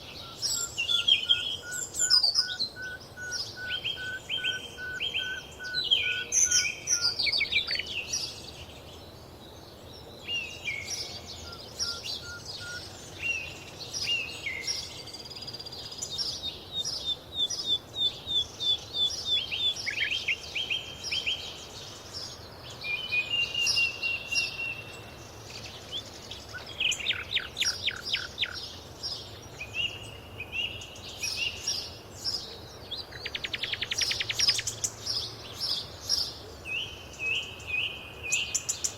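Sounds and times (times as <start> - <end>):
birds singing and chirping: 0.0 - 38.9.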